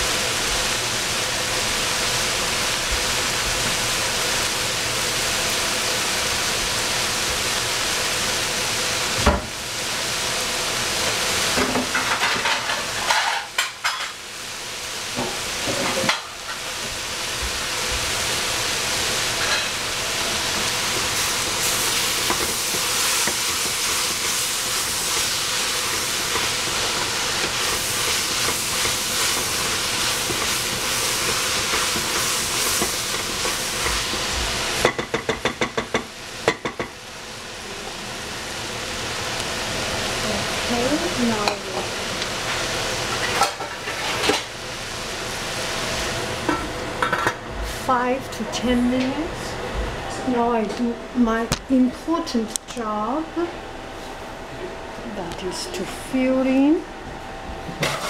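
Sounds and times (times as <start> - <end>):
vegetables sizzling in a pan: 0.0 - 54.2.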